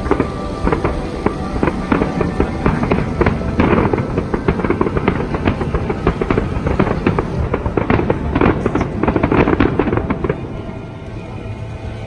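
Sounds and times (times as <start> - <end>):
fireworks crackling and popping: 0.0 - 12.0
music playing: 0.0 - 12.0.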